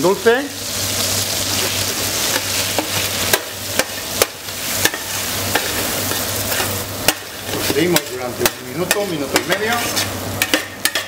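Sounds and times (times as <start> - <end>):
rice sizzling in hot oil: 0.0 - 11.0.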